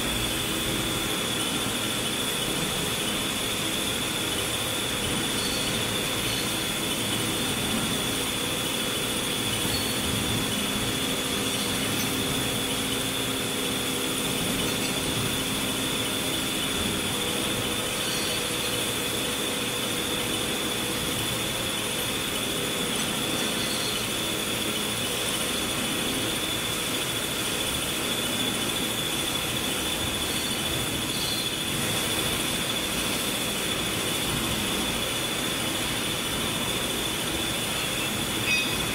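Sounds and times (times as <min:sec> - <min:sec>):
high-pitched whine: 0:00.0 - 0:38.9
machinery hum: 0:00.0 - 0:38.9.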